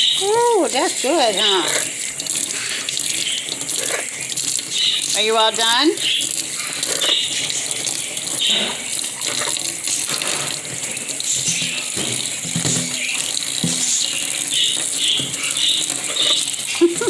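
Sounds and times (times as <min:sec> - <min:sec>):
bird bathing in water: 0:00.0 - 0:17.0
sink faucet running: 0:00.0 - 0:17.0.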